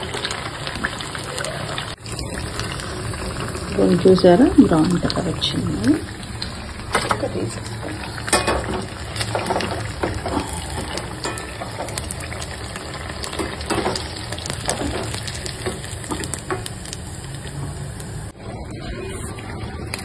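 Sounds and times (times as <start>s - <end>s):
deep-frying sizzle: 0.0s - 20.0s.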